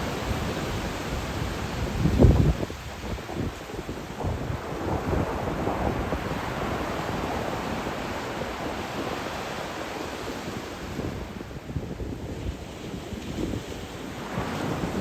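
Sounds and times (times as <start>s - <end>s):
sea waves washing on shore: 0.0s - 15.0s
wind buffeting microphone: 0.0s - 15.0s.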